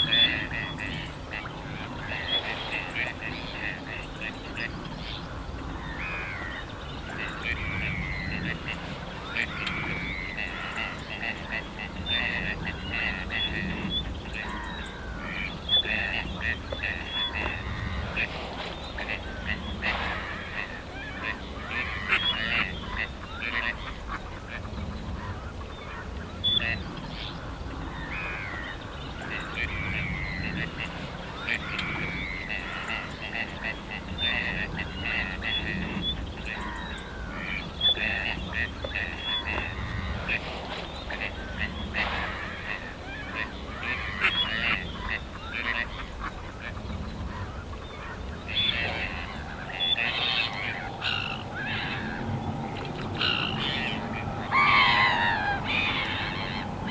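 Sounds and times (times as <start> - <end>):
distant road traffic rumble: 0.0 - 56.9
waterbirds calling: 0.0 - 56.9.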